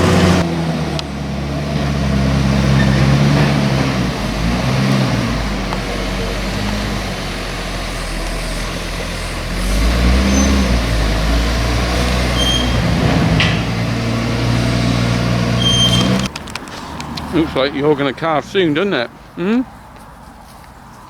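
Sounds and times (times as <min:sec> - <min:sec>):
vehicle engine running: 0:00.0 - 0:18.7.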